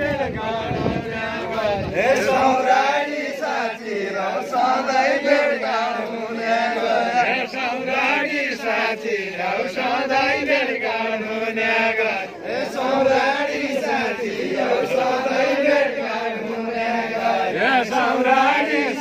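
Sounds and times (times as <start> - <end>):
group of voices chanting: 0.0 - 19.0.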